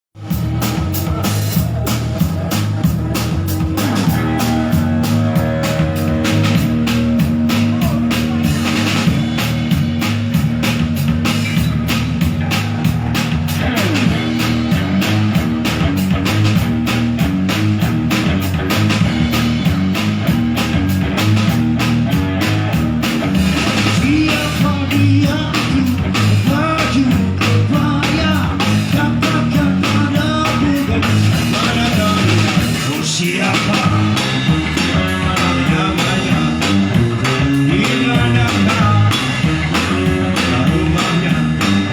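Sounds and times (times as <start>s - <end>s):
bass guitar: 0.1s - 41.9s
drum kit beat: 0.2s - 41.9s
electric guitar: 0.2s - 41.9s.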